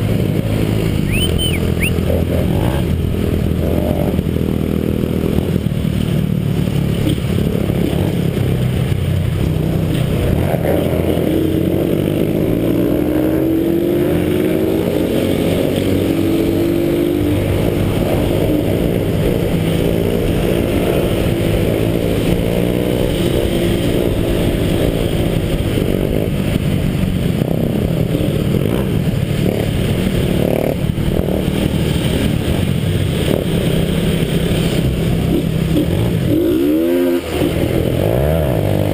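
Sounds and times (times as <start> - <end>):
motorcycle engine revving: 0.0 - 38.9
motorcycle engines running: 0.0 - 38.9.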